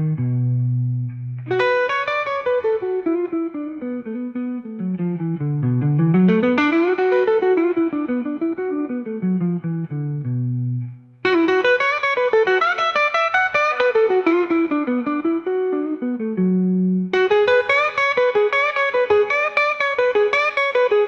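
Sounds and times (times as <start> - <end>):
fast guitar melody: 0.0 - 21.0.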